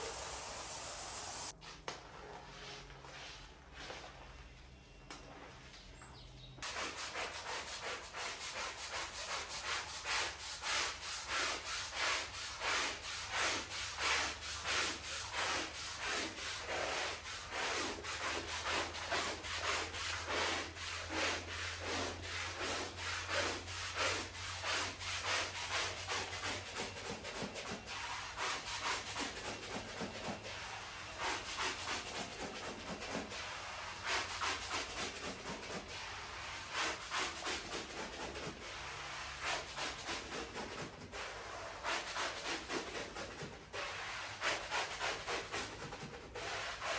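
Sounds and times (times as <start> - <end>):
brush scrubbing wet rug: 6.6 - 46.9.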